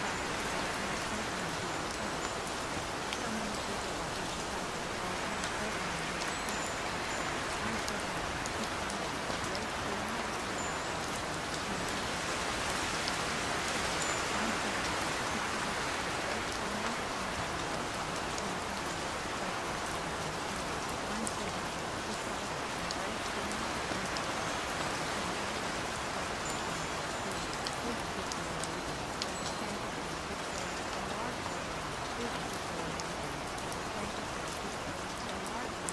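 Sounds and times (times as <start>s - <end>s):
steady rain hiss: 0.0s - 35.9s
raindrop ticks: 0.1s - 12.0s, 12.7s - 35.9s.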